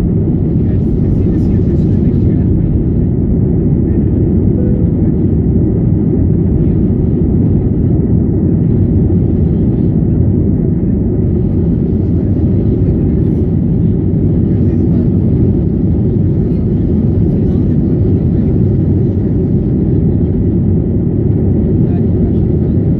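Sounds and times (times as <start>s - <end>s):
airplane engines rumbling: 0.0s - 22.9s.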